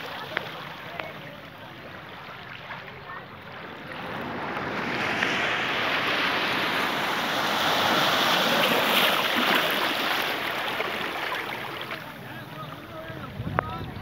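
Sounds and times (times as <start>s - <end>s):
waves washing over rocks: 0.0s - 14.0s.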